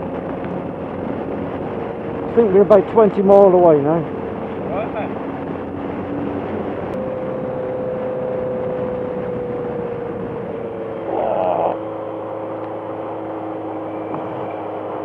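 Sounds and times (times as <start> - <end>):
motorcycle engine: 0.0 - 15.0
wind noise: 0.0 - 15.0.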